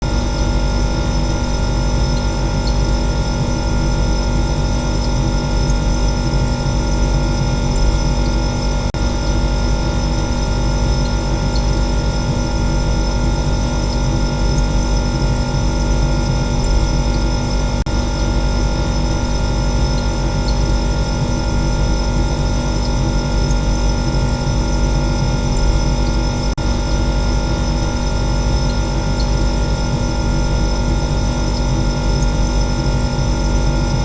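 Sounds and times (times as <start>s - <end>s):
refrigerator humming: 0.0s - 34.0s.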